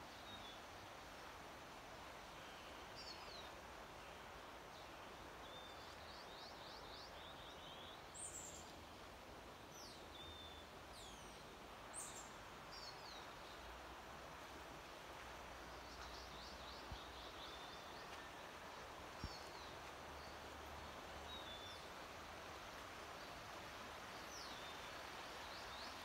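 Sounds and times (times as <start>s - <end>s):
background hiss: 0.0s - 26.0s
songbirds chirping: 0.0s - 26.0s.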